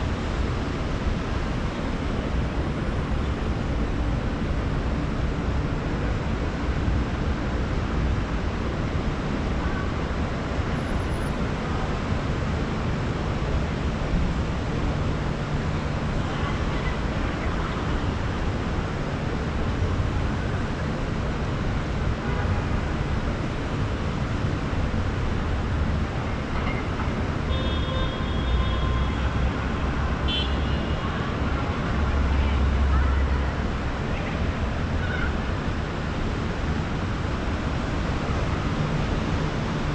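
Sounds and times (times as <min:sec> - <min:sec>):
city street traffic: 0:00.0 - 0:39.9.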